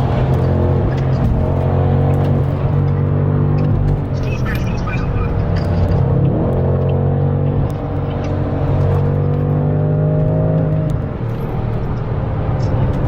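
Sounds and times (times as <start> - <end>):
car engine accelerating: 0.0 - 13.0
road noise: 0.0 - 13.0.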